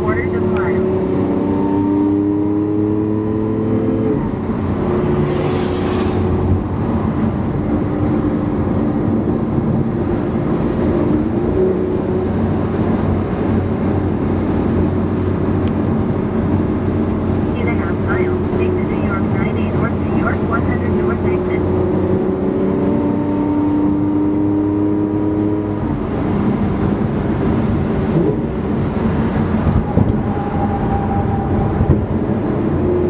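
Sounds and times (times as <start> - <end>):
car engine accelerating: 0.0 - 33.0
road and wind noise: 0.0 - 33.0.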